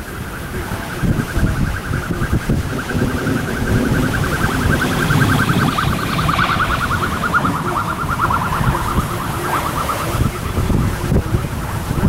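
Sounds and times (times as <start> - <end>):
fluttering siren: 0.0 - 12.0
wind rumble on microphone: 0.0 - 12.0.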